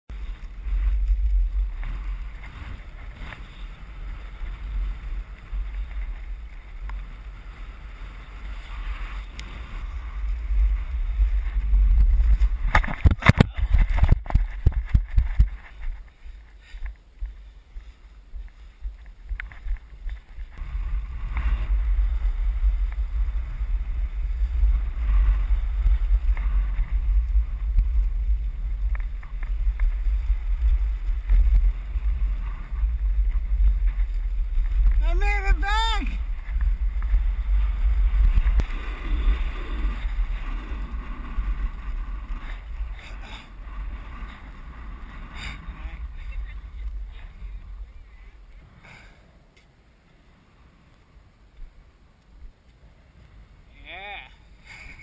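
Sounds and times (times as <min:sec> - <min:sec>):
wind buffeting microphone: 0:00.1 - 0:48.8.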